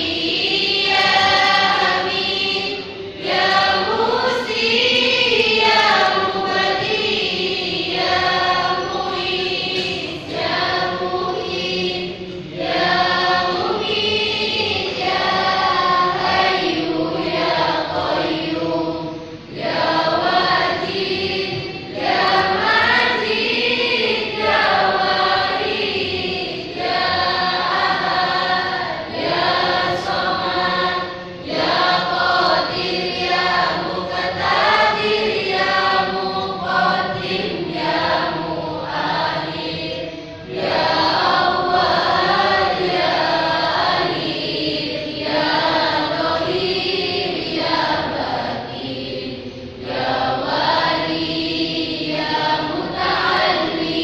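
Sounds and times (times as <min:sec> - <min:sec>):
group of people singing: 0:00.0 - 0:54.0.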